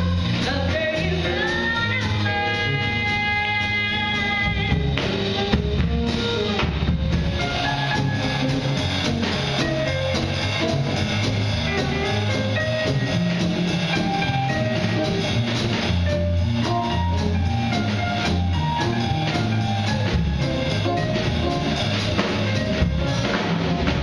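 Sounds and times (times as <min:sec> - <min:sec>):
jazz combo playing swing: 0:00.0 - 0:24.0.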